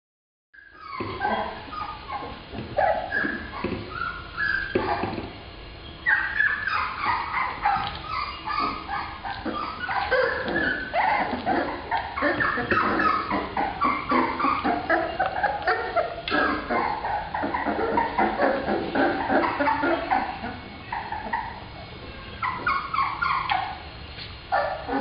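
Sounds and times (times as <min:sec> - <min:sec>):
puppies whining and yipping: 0:00.6 - 0:05.4, 0:06.0 - 0:25.0.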